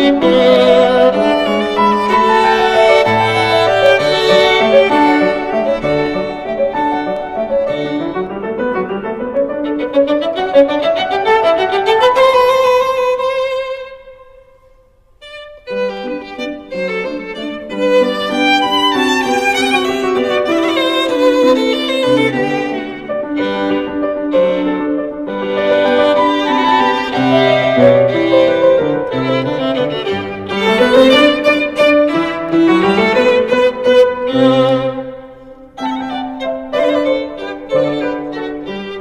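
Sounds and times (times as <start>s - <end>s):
violin melody: 0.0s - 39.0s.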